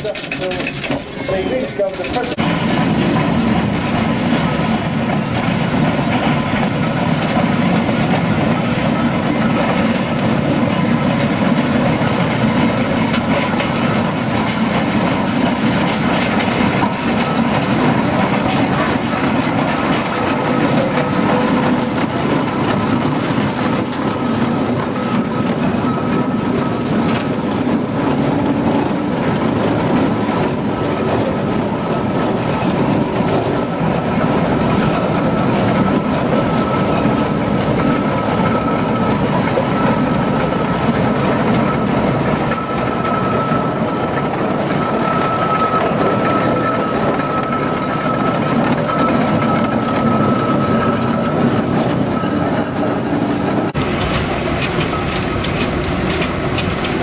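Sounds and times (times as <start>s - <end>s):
steam engine clattering: 0.0s - 57.0s.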